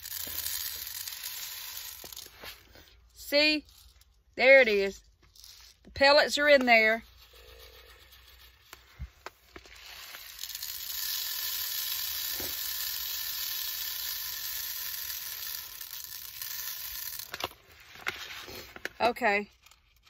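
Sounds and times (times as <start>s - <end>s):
plastic pellets pouring through funnel: 0.0s - 6.0s, 6.8s - 20.0s.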